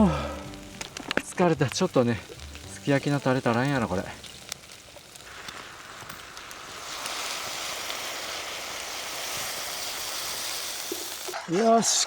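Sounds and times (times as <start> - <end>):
sauce sizzling in a pan: 0.0 - 11.4.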